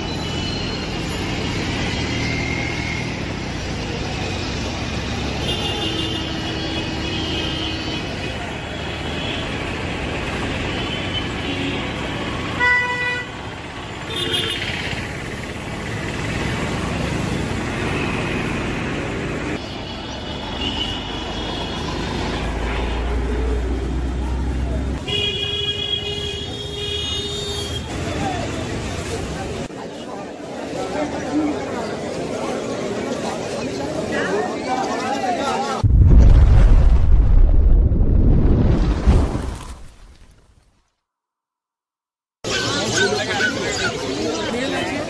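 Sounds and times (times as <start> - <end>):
traffic engines and passing vehicles: 0.0 - 36.1, 42.4 - 45.0.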